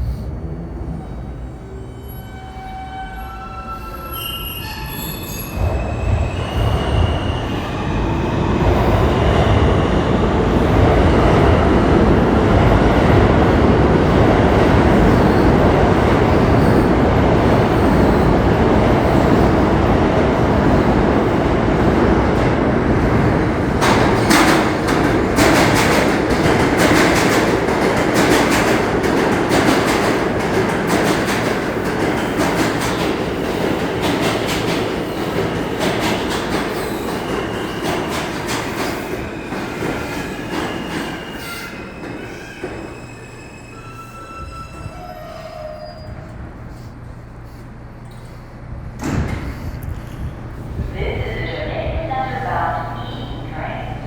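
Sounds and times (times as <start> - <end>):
subway train rumble: 0.0 - 54.0.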